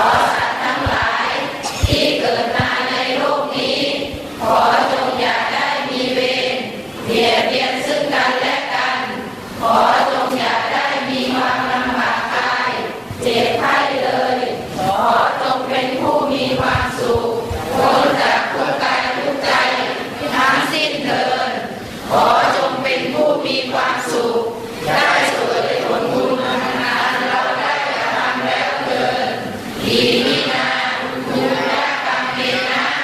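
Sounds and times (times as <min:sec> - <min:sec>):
group chanting in unison: 0:00.0 - 0:33.0.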